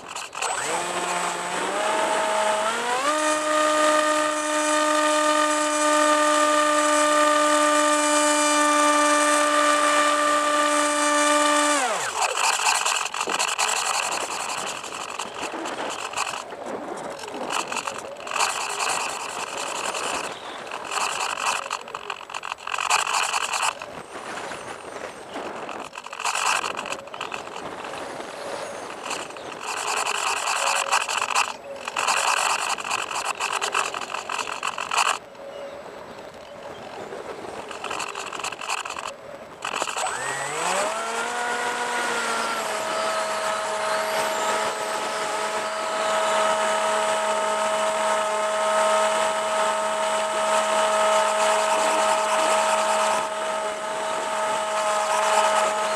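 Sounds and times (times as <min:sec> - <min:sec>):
electric motor and propeller whine: 0:00.0 - 0:55.9.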